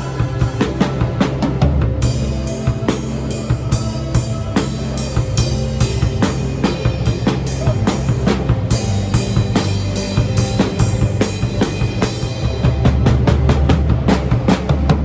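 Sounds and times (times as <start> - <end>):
drum kit playing a steady beat: 0.0 - 15.0
music with low bass notes: 0.0 - 15.0.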